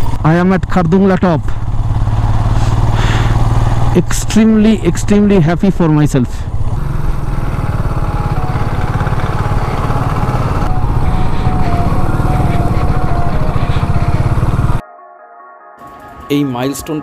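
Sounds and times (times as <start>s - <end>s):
motorcycle engine at low speed: 0.0s - 14.8s.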